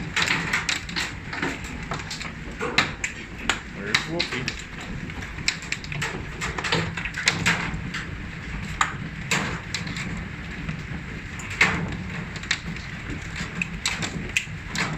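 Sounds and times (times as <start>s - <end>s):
hailstones pelting down: 0.0s - 14.9s
hailstones striking hard surfaces: 0.0s - 14.9s.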